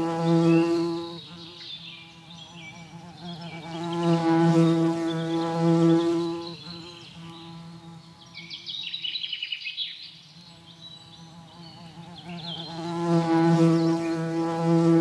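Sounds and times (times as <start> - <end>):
insect wing buzz: 0.0 - 9.1, 10.2 - 15.0.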